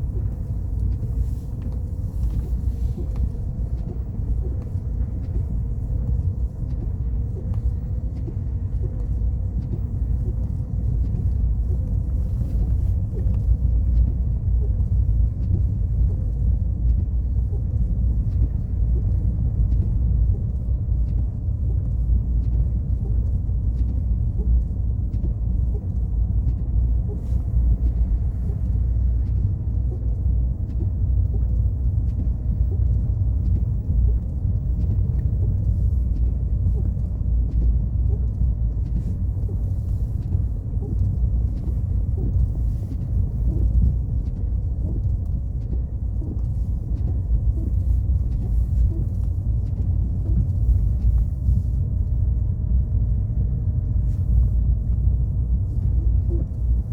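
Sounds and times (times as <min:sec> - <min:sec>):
car engine and tyres rumbling: 0:00.0 - 0:56.9.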